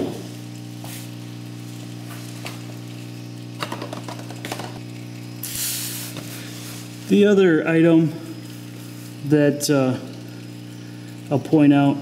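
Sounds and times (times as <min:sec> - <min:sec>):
oil trickling into a pan: 0:00.3 - 0:12.0.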